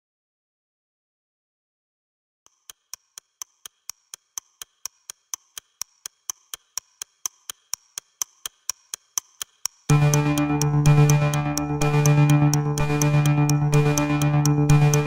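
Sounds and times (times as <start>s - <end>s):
steady ticking: 2.5s - 15.0s.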